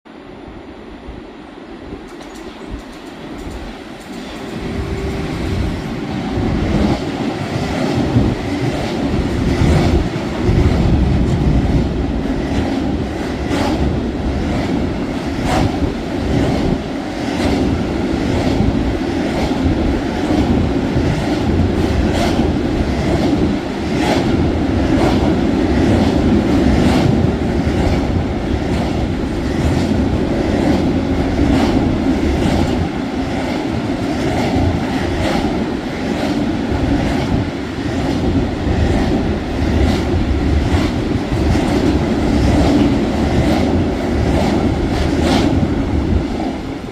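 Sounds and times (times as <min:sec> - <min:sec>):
freight train rumbling past: 0:00.1 - 0:46.9.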